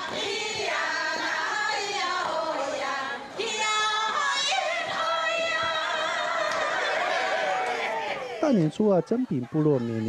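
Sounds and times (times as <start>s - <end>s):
group singing dance song: 0.0s - 8.4s.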